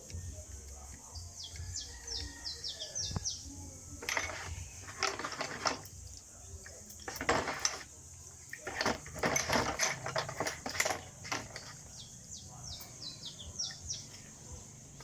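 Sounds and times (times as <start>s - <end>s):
metal parts and tools clinking: 0.0s - 14.3s.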